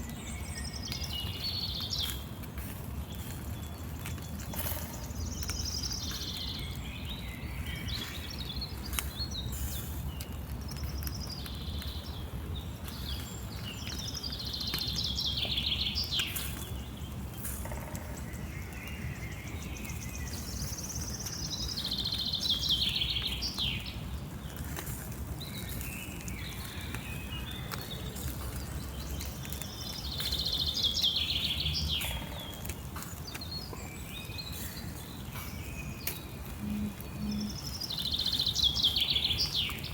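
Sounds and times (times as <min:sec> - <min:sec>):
low outdoor rumble: 0:00.0 - 0:39.9
songbird singing: 0:00.0 - 0:39.9.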